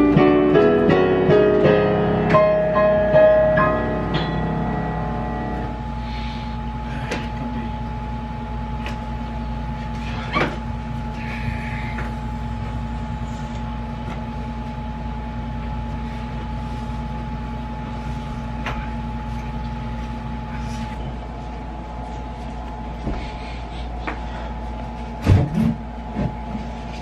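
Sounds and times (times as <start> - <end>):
air conditioner droning: 0.0 - 27.0.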